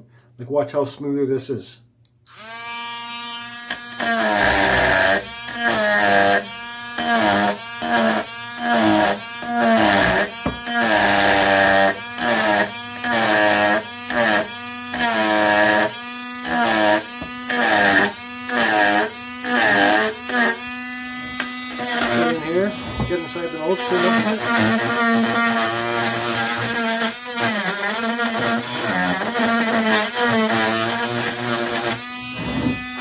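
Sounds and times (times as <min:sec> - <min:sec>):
rotary tool cutting wood: 0:02.3 - 0:33.0.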